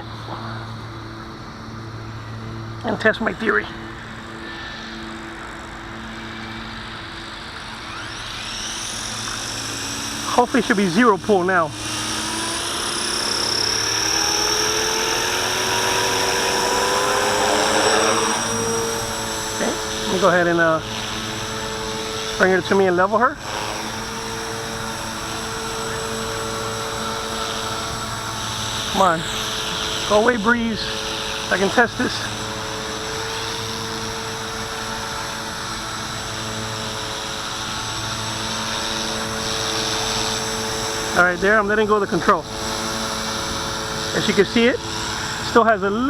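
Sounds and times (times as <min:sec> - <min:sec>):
rc helicopter whine: 0:00.0 - 0:46.0.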